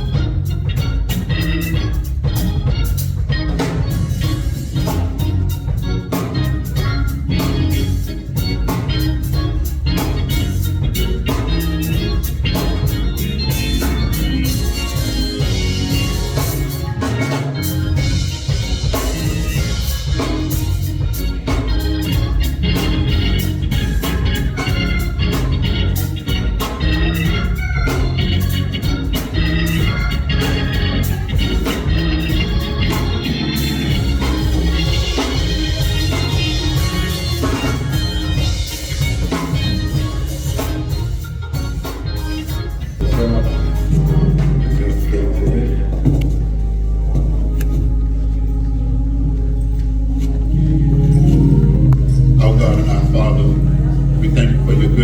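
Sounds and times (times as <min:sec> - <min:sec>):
drum kit beat: 0:00.0 - 0:55.0
organ music: 0:00.0 - 0:55.0.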